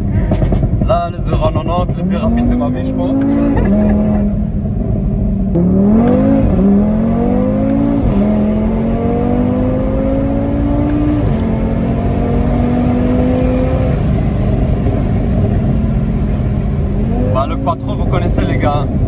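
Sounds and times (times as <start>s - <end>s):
car engine accelerating through gears: 0.0s - 19.0s.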